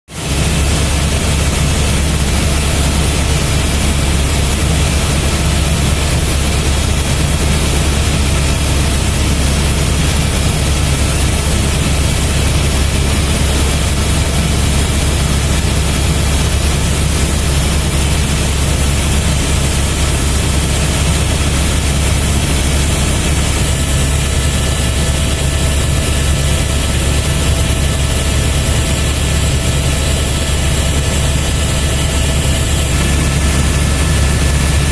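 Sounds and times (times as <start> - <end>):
helicopter rotor and engine drone: 0.1 - 34.9.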